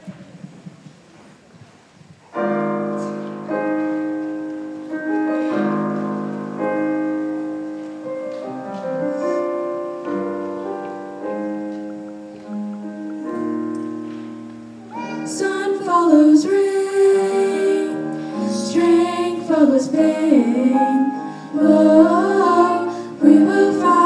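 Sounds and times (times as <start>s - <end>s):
piano playing slow chords: 2.4s - 24.0s.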